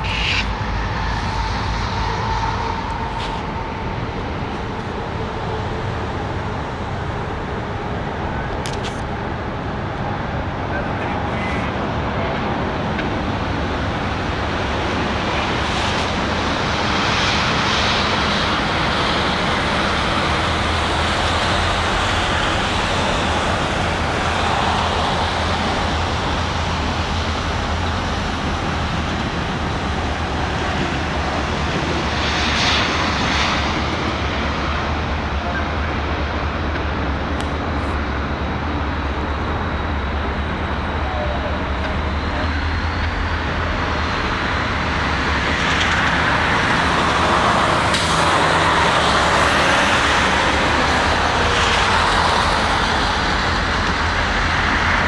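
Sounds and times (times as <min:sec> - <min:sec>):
city traffic hum: 0:00.0 - 0:55.0
diesel locomotives rumbling: 0:00.0 - 0:55.0.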